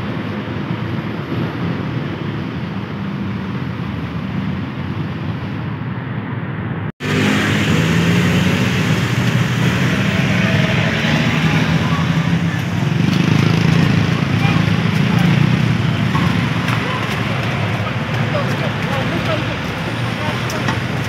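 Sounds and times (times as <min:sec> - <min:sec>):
road traffic passing cars: 0:00.0 - 0:21.0.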